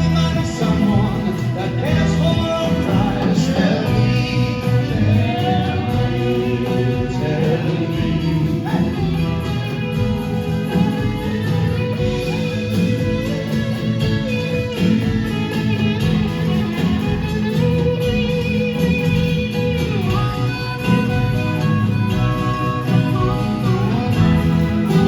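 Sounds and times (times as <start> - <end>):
bass: 0.0 - 25.0
drums: 0.0 - 25.0
strummed guitars: 0.0 - 25.0.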